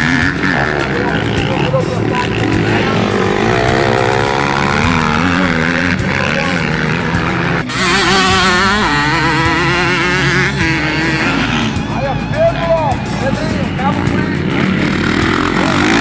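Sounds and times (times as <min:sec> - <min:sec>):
dirt bike engines revving: 0:00.0 - 0:16.0
high-pitched engine: 0:00.0 - 0:16.0.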